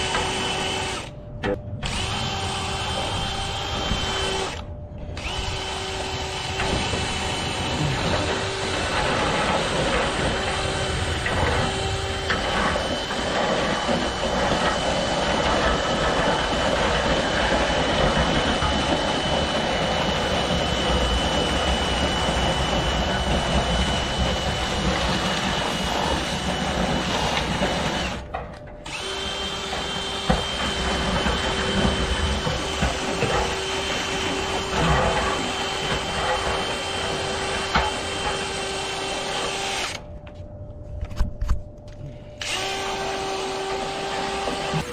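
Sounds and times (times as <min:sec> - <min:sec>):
power drill whining: 0:00.0 - 0:40.1, 0:42.1 - 0:44.9.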